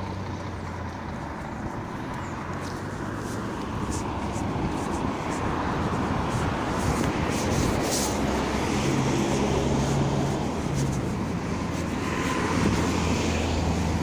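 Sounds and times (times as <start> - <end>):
wind buffeting microphone: 0.8 - 14.0.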